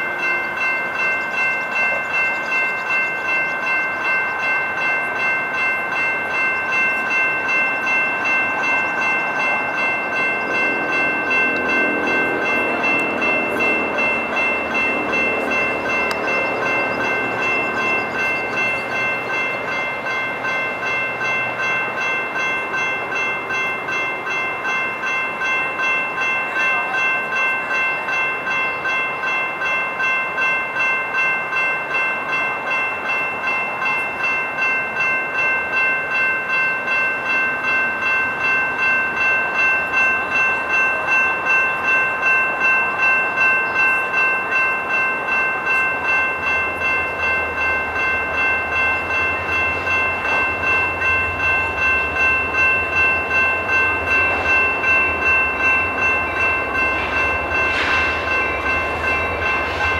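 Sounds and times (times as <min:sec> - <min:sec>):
electronic crossing bell ringing: 0:00.0 - 0:59.9.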